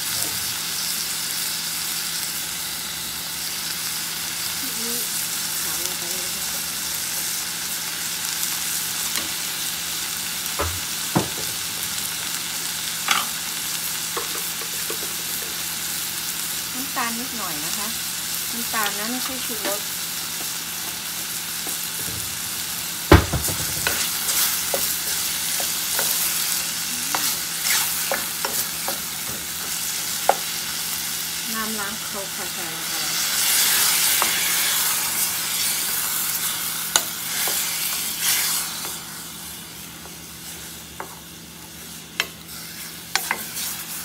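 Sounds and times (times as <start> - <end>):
chicken sizzling in a pot: 0.0 - 44.0.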